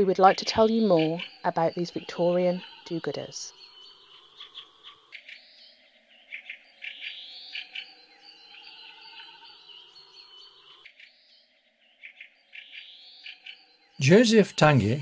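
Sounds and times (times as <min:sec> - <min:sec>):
birds chirping and singing: 0:00.0 - 0:15.0.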